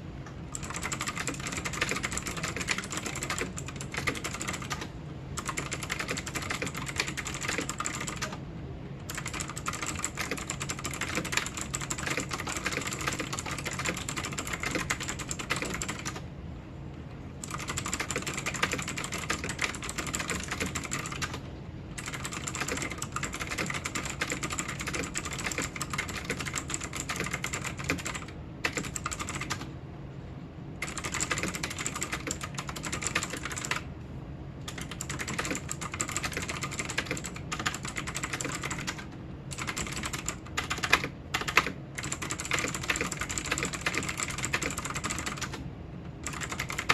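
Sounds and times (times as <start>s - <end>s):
fast keyboard typing: 0.4s - 8.4s, 9.1s - 16.3s, 17.4s - 29.7s, 30.8s - 33.9s, 34.6s - 45.6s, 46.2s - 46.9s.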